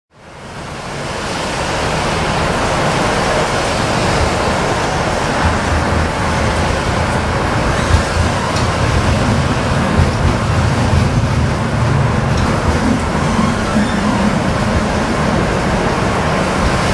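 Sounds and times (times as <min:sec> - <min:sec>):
tram wheels rumbling on rails: 0:00.2 - 0:16.9.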